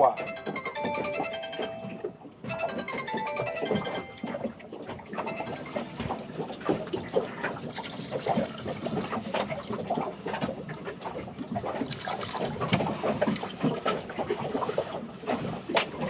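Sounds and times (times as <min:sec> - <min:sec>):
waves slapping boat hull: 0:00.2 - 0:16.0.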